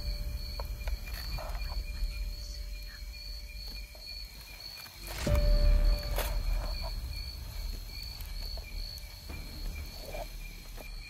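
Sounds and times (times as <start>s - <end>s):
crickets chirping: 0.0s - 11.0s
low rumble: 0.0s - 11.0s.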